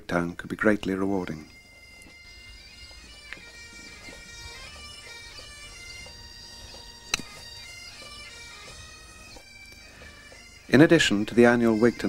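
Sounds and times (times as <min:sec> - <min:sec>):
bagpipe music: 0:00.0 - 0:12.0.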